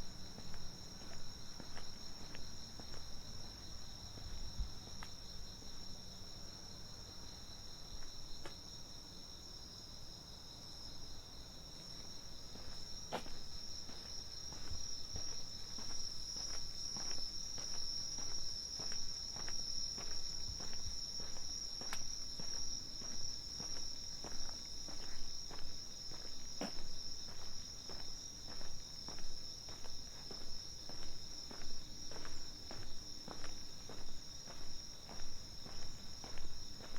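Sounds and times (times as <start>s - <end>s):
footsteps walking: 0.0s - 5.2s, 11.8s - 36.9s
night insects chirring: 0.0s - 36.9s.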